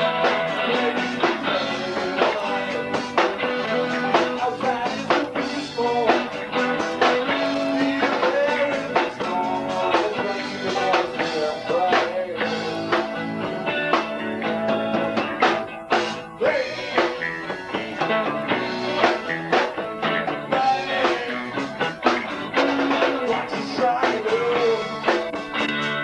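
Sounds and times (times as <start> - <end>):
bass guitar: 0.0 - 26.0
drum kit beat: 0.0 - 26.0
electric guitar with bent notes: 0.0 - 26.0.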